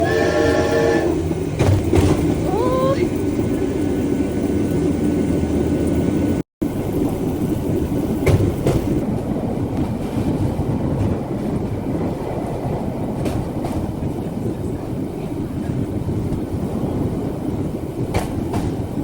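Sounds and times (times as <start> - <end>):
wheels clacking over rail joints: 0.0 - 19.0
wheels rumbling on railway track: 0.0 - 19.0.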